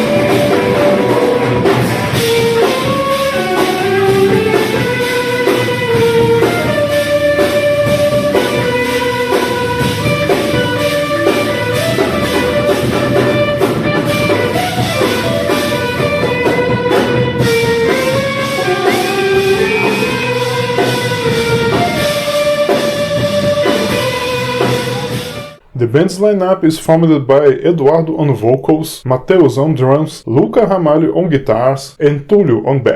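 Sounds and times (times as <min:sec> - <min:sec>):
distorted electric guitars: 0:00.0 - 0:26.8
fast drum kit: 0:00.0 - 0:27.0.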